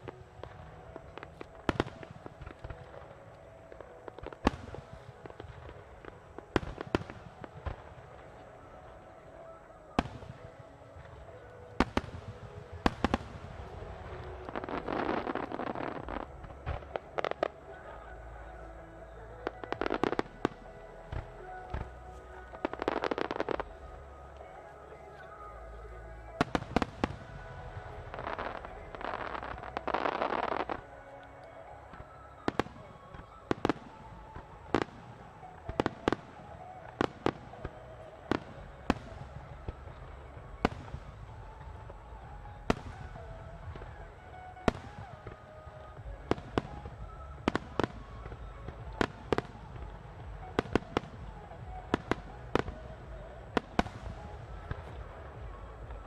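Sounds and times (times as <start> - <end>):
faint music: 0.0 - 56.0.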